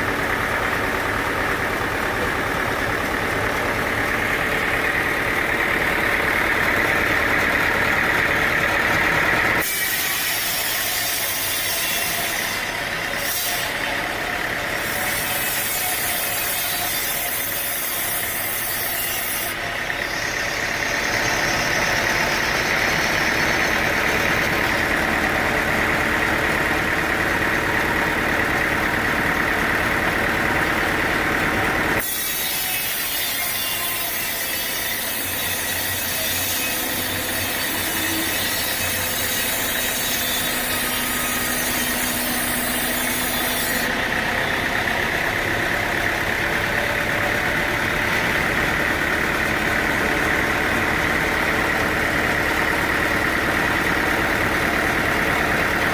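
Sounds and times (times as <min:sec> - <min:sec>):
machine motor running: 0:00.0 - 0:33.2, 0:34.0 - 0:55.9
saw cutting through log: 0:00.0 - 0:55.9.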